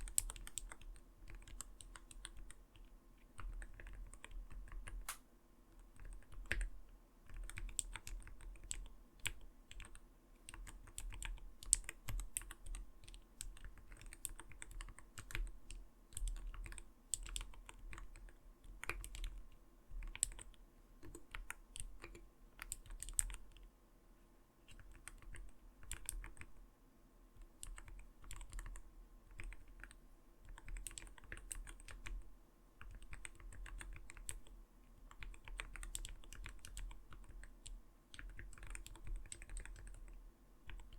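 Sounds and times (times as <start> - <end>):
keyboard typing: 0.0 - 5.2, 5.8 - 23.6, 24.7 - 26.5, 27.4 - 32.2, 32.8 - 40.9.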